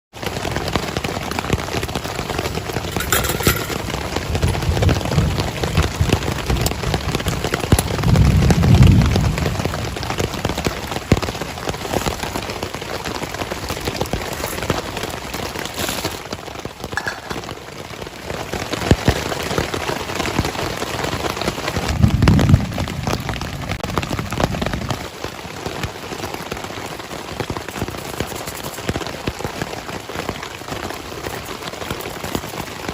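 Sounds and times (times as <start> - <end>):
rain on a tent: 0.1 - 32.9.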